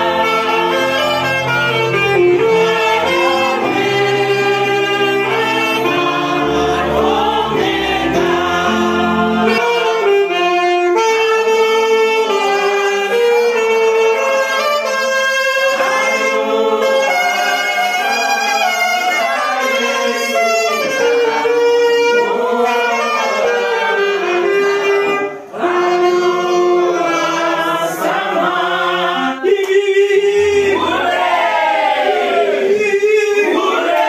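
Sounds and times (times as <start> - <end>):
saxophone playing slow melody: 0.0 - 27.5
group of people singing: 0.0 - 34.0.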